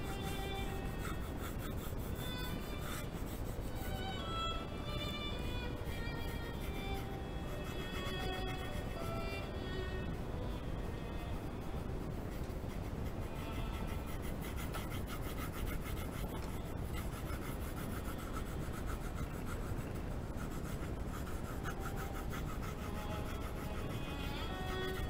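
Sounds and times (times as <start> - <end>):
colored pencil scratching on paper: 0.0 - 4.0, 5.8 - 9.4, 12.1 - 25.0.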